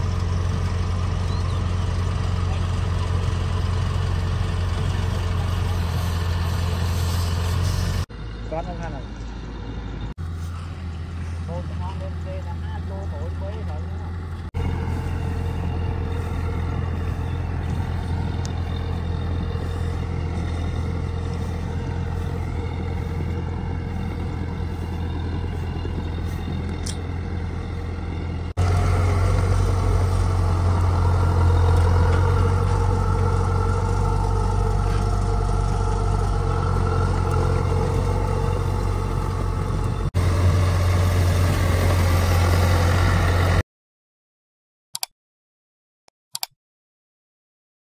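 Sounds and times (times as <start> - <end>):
engine running with low hum: 0.0 - 43.6.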